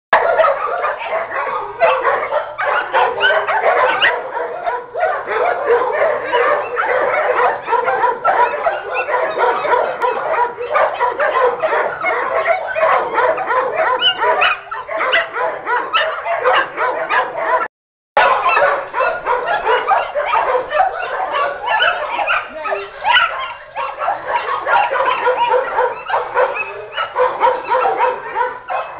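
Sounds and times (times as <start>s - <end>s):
dogs barking and yipping: 0.1s - 28.9s.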